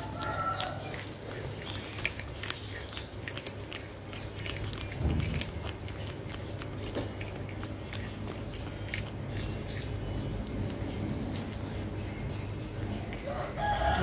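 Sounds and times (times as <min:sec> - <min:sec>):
kitten chewing and crunching: 0:00.0 - 0:14.0.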